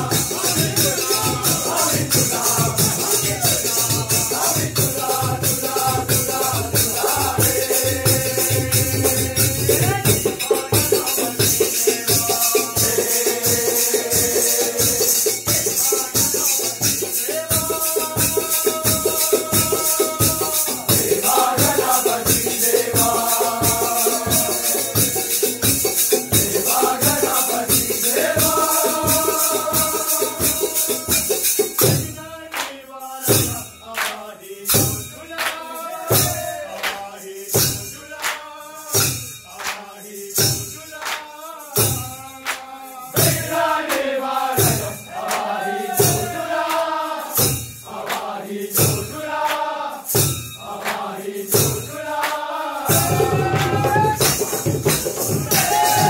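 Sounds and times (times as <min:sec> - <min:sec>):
drum beat: 0:00.0 - 0:32.7, 0:33.3 - 0:38.4, 0:41.8 - 0:56.0
jingling percussion: 0:00.0 - 0:56.0
men singing: 0:00.0 - 0:56.0.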